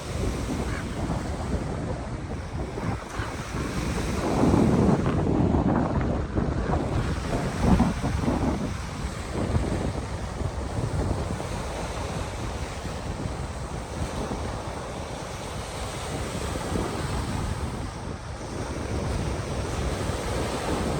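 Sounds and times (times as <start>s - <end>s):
waves washing against shore: 0.0s - 20.9s
wind buffeting microphone: 0.0s - 20.9s.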